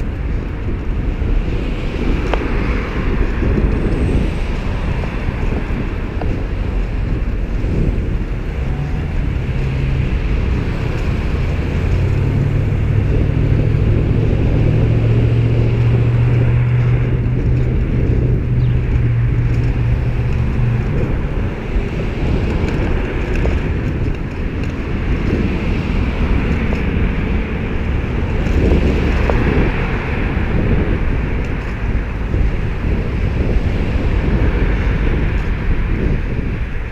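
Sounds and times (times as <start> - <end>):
low engine hum: 0.0 - 36.9
road traffic going by: 0.0 - 36.9
wind rushing over microphone: 0.0 - 36.9.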